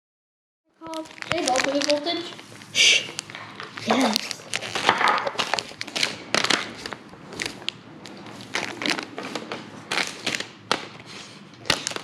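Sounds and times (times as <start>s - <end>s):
packaging crinkling: 0.8s - 12.0s.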